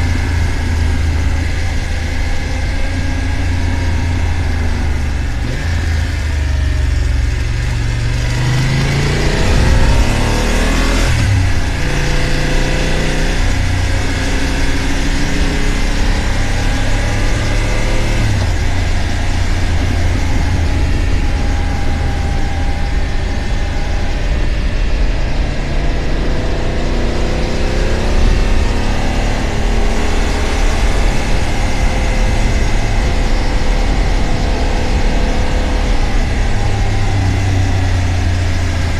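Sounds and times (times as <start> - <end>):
motorcycle engine revving: 0.0 - 38.9
wind rushing: 6.9 - 38.9.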